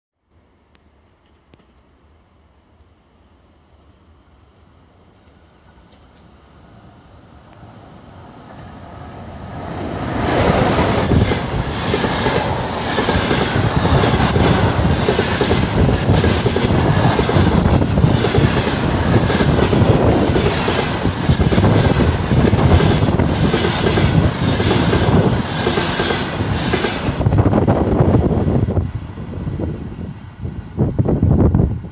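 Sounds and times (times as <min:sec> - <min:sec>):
train passing at speed: 0:03.7 - 0:31.9.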